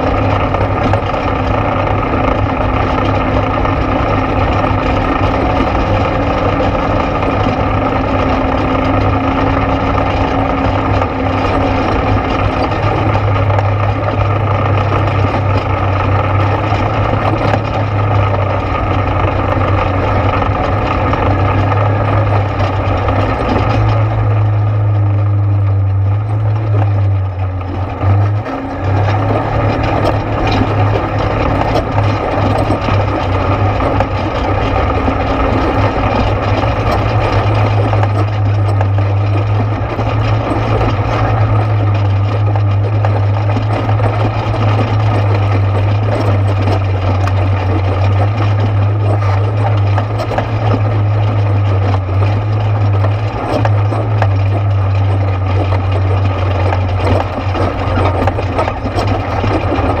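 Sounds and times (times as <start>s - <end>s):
engine droning: 0.0s - 60.0s.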